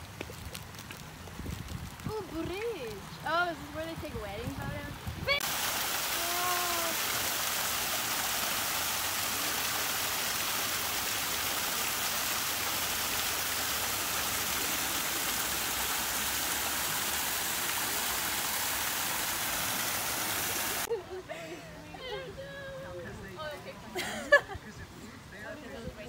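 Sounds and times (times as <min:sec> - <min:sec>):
waterfall splashing over rocks: 0:00.0 - 0:20.9.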